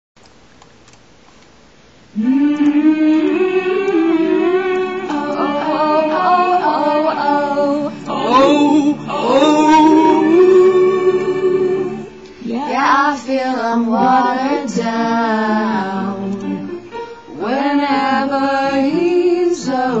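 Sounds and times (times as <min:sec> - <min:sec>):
faint hiss: 0:00.2 - 0:20.0
young women singing: 0:02.2 - 0:16.7, 0:17.3 - 0:20.0.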